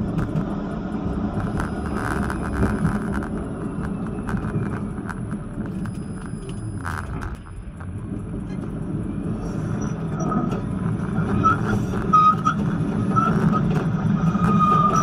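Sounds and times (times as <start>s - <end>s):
tram rumbling along track: 0.0s - 15.0s
wheels clicking on rails: 0.0s - 15.0s.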